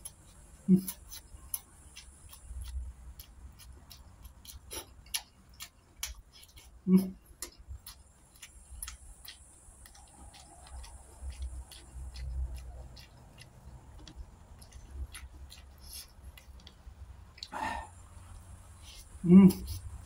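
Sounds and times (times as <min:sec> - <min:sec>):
chewing with wet mouth clicks: 0:00.0 - 0:20.0.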